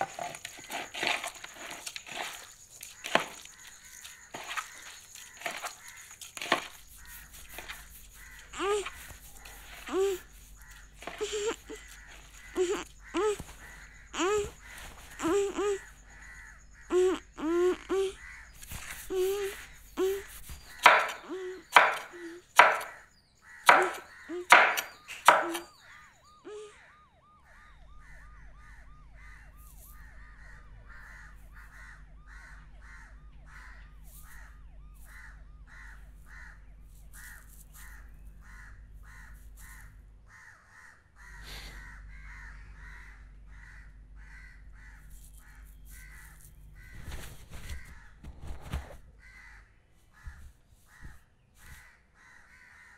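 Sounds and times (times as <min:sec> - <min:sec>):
crows cawing: 0:00.0 - 0:26.9, 0:27.5 - 0:48.2, 0:49.2 - 0:52.9.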